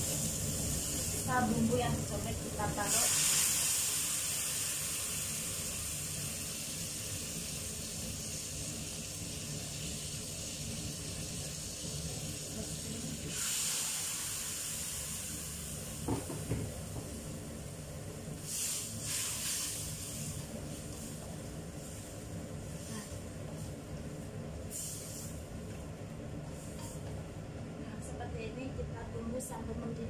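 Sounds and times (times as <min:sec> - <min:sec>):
water sizzling in hot wok: 0:00.0 - 0:24.0, 0:24.6 - 0:25.5.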